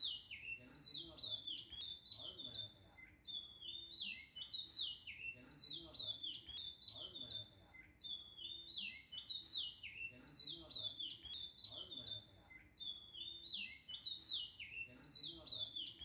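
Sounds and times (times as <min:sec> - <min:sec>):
faint steady high tone: 0:00.0 - 0:16.0.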